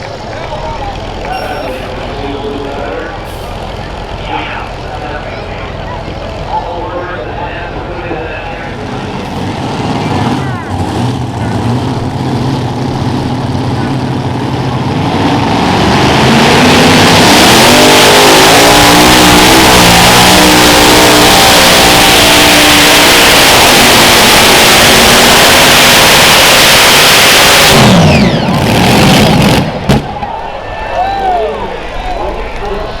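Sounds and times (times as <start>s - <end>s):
pulling tractor engines at full power: 0.0s - 33.0s.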